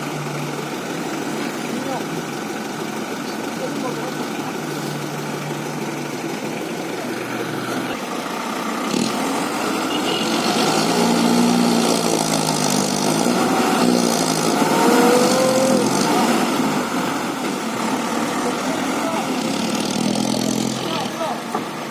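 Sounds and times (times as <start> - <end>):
vehicle engine revving: 0.0 - 21.9.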